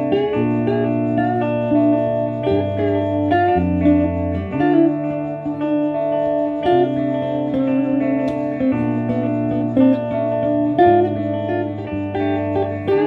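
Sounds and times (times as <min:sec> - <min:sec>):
electric guitars playing: 0:00.0 - 0:13.0.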